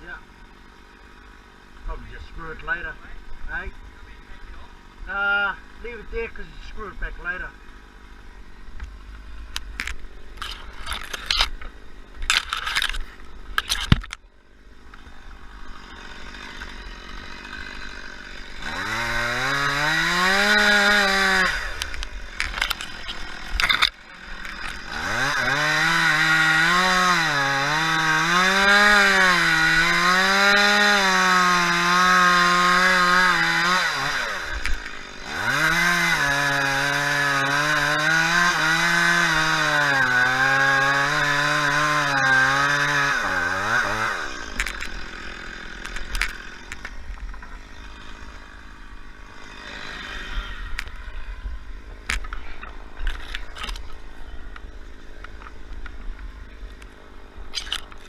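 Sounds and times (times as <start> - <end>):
chainsaw revving and cutting: 0.0 - 8.3, 13.6 - 55.6.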